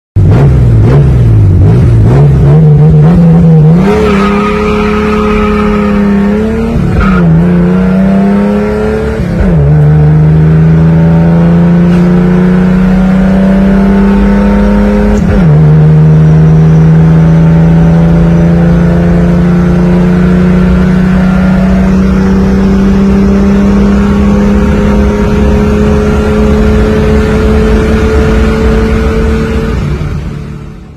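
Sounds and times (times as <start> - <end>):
car engine revving: 0.2 - 30.9.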